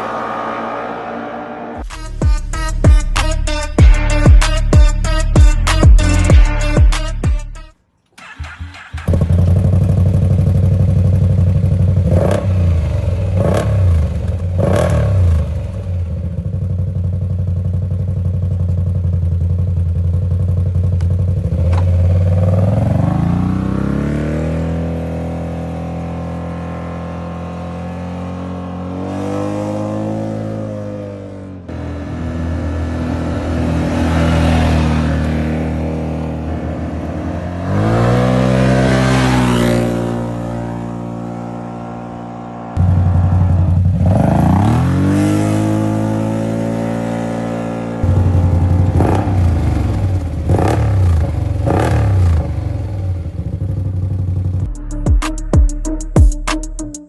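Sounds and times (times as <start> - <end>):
atv engine revving: 8.2 - 54.7.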